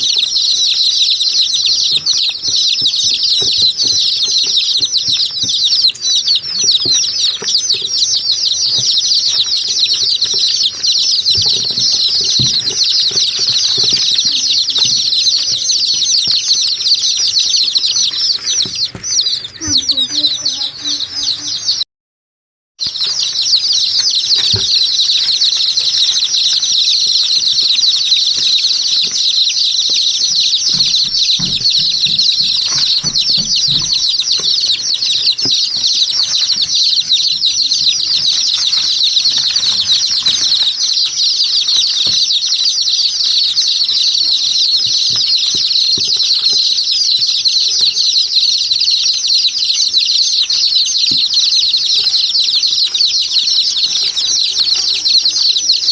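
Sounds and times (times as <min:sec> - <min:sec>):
small birds chirping: 0:00.0 - 0:21.8, 0:22.8 - 0:55.9.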